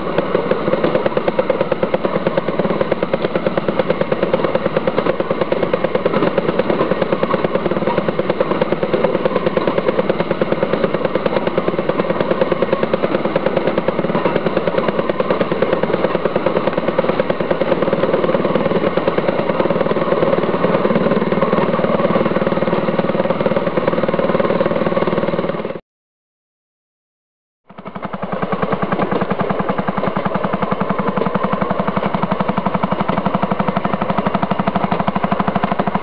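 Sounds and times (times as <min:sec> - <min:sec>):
railway speeder engine running: 0:00.0 - 0:25.8, 0:27.7 - 0:36.0.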